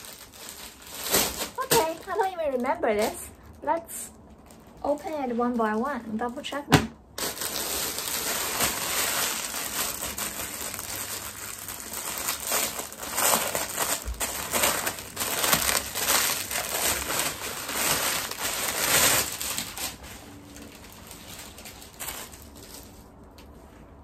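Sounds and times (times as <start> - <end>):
plastic packaging crinkling: 0.0 - 23.8.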